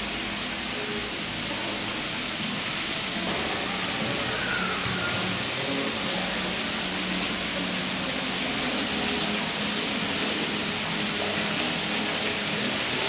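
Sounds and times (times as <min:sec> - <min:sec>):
water rushing in a stream: 0:00.0 - 0:13.0.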